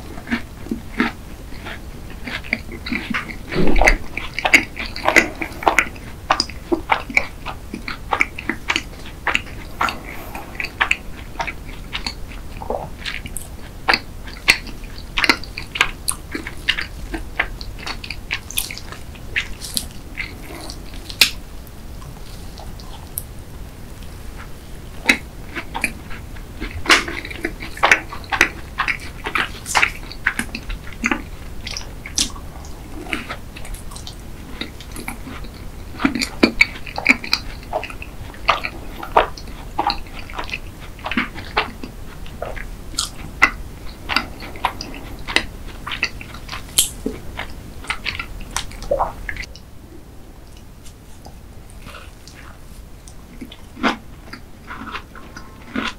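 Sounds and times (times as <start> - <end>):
chewing crunches: 0.0 - 23.4, 24.0 - 49.6, 50.6 - 55.9
wet mouth clicks: 0.3 - 21.4, 25.0 - 49.5.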